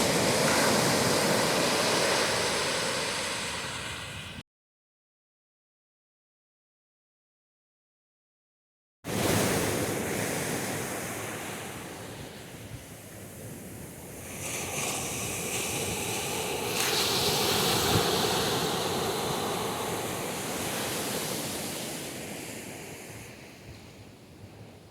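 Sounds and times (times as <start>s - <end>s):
ocean surf washing on beach: 0.0s - 4.4s, 9.1s - 24.9s.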